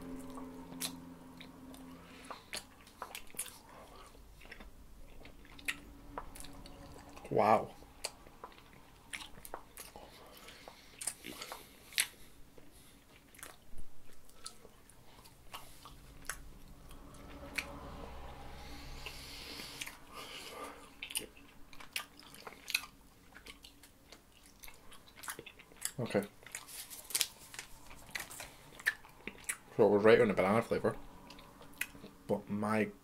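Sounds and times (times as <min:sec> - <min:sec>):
chewing chewy candy: 0:00.4 - 0:16.4, 0:19.0 - 0:29.8.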